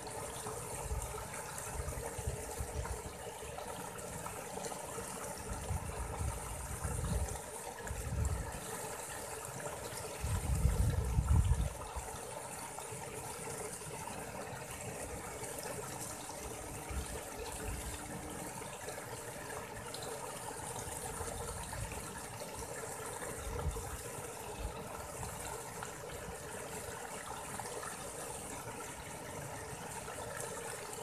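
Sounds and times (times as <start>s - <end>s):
stream trickling: 0.0s - 31.0s.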